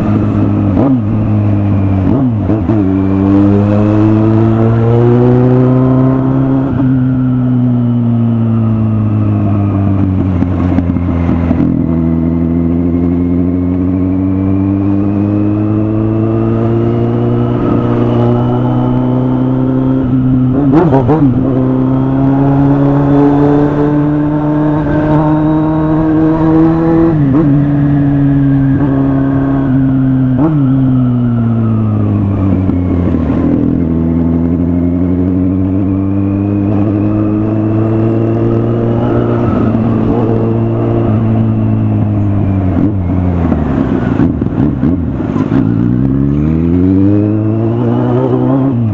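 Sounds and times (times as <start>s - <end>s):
motorcycle engine: 0.0s - 48.9s.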